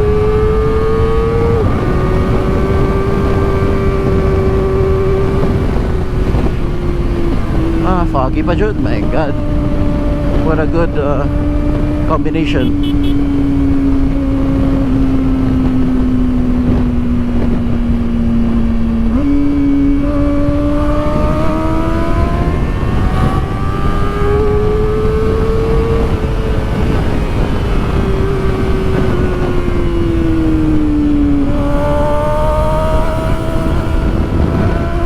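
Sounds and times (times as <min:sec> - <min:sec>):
motorcycle engine at high revs: 0:00.0 - 0:35.0.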